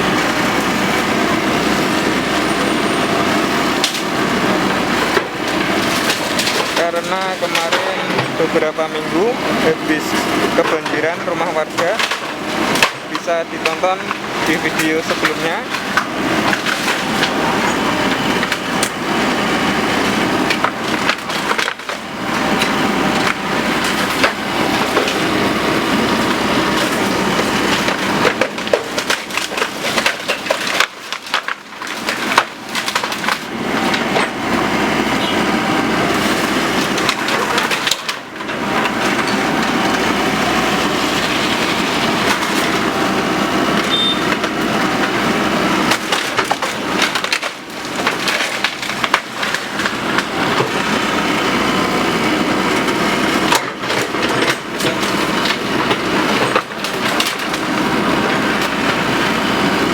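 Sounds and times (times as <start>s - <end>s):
bamboo cracking and splintering: 3.4s - 8.5s, 10.7s - 59.9s.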